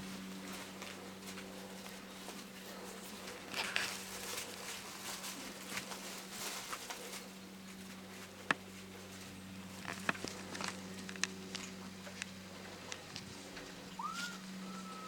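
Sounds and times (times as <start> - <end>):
low electrical hum: 0.0 - 15.0
light taps and scratches: 0.5 - 13.6.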